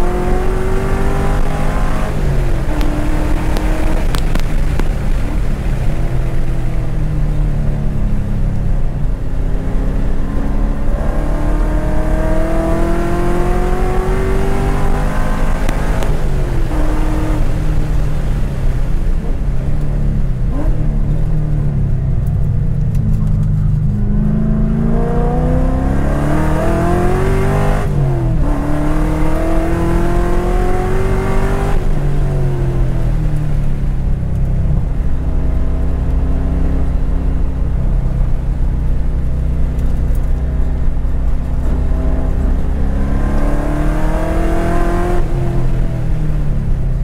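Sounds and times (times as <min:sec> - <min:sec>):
car engine revving in cabin: 0:00.0 - 0:47.0.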